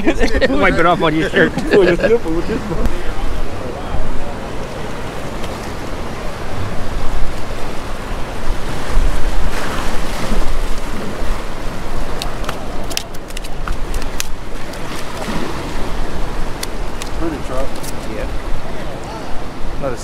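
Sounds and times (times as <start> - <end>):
surf washing against rocks: 0.0 - 20.0
wind rumbling on microphone: 0.0 - 20.0.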